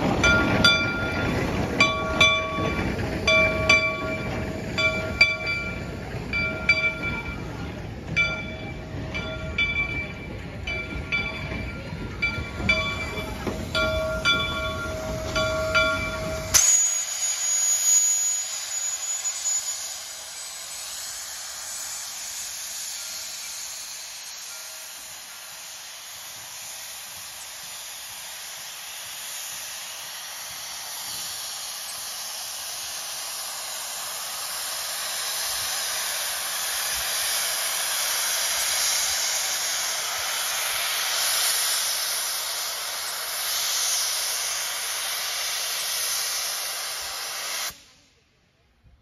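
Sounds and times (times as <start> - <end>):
steam venting hiss: 0.0 - 49.0.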